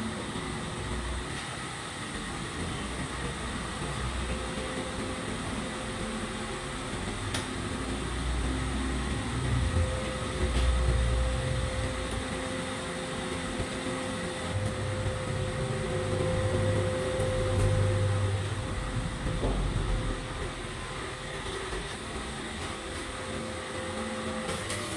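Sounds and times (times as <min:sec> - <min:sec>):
lathe running with steady hum: 0:00.0 - 0:24.9.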